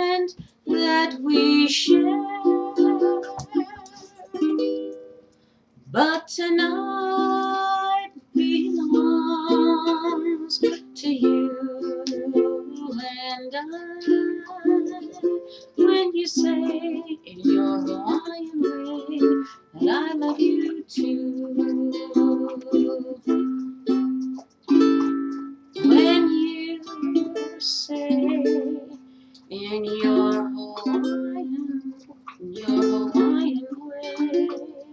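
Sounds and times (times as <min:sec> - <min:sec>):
ukulele strumming chords: 0:00.0 - 0:05.3, 0:05.9 - 0:34.9.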